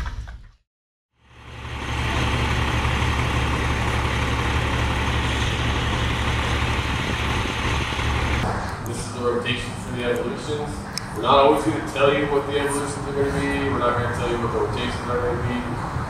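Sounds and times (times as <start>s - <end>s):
large vehicle engine idling: 1.2s - 15.2s.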